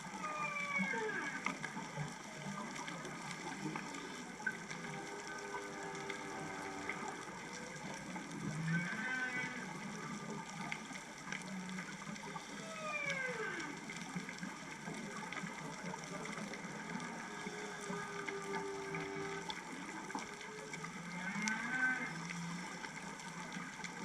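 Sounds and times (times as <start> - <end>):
crackling hiss: 0.0 - 24.0
whale song moans and calls: 0.0 - 24.0.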